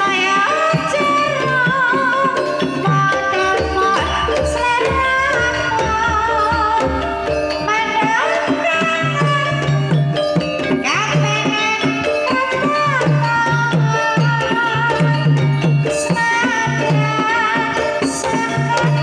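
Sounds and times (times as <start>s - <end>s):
ringing metallophone tones: 0.0s - 19.0s
woman singing ornamented lines: 0.0s - 19.0s.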